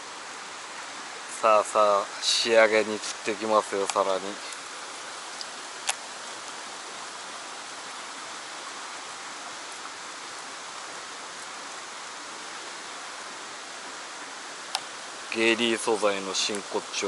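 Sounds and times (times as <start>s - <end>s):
water rushing through a channel: 0.0s - 17.0s.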